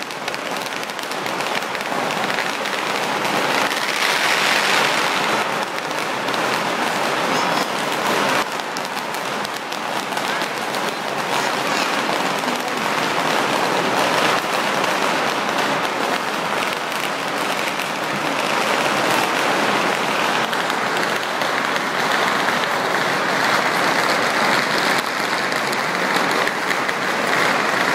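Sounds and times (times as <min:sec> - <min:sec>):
firecrackers crackling: 0:00.0 - 0:27.9.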